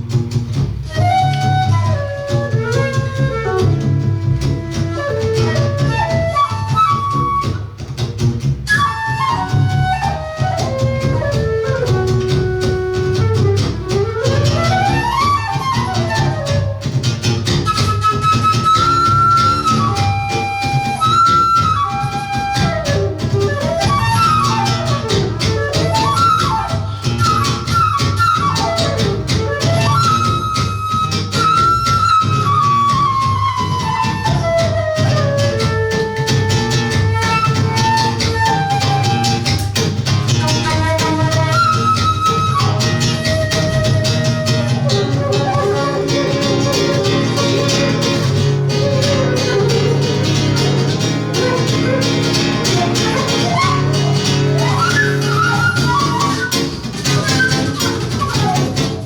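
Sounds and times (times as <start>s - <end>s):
acoustic guitar plucking: 0.0s - 59.0s
flute melody: 0.0s - 59.0s.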